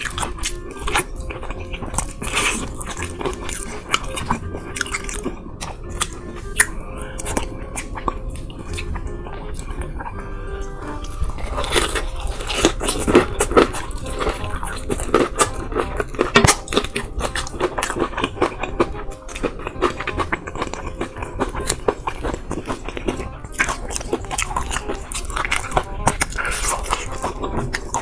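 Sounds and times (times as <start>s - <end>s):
crunchy chewing of fried chicken: 0.0s - 28.0s.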